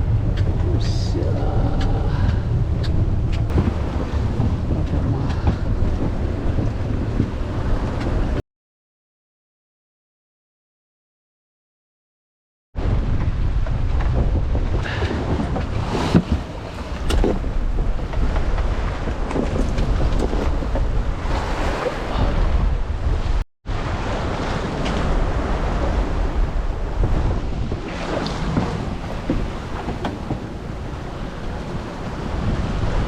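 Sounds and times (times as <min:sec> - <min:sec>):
water rushing along hull: 0:00.0 - 0:08.4, 0:12.8 - 0:33.0
wind buffeting microphone: 0:00.0 - 0:08.4, 0:12.8 - 0:33.0.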